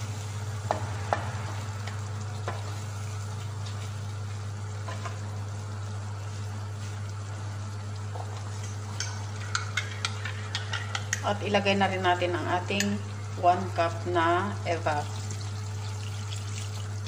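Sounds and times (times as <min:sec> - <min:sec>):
chicken sizzling in cream: 0:00.0 - 0:17.0
steady low hum: 0:00.0 - 0:17.0.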